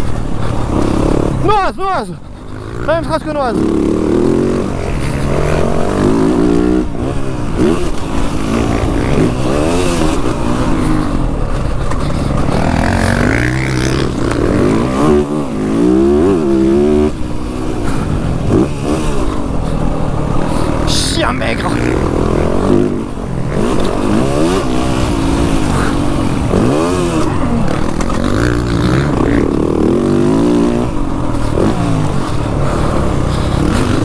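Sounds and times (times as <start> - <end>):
motocross bike engine revving: 0.4 - 34.0.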